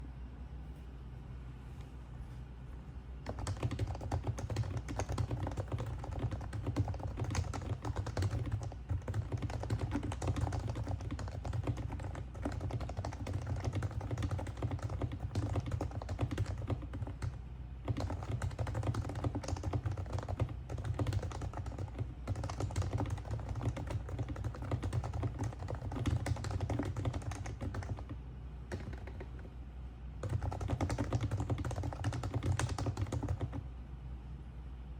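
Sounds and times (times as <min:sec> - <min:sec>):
soft keyboard typing: 0:03.2 - 0:29.6, 0:30.2 - 0:33.6.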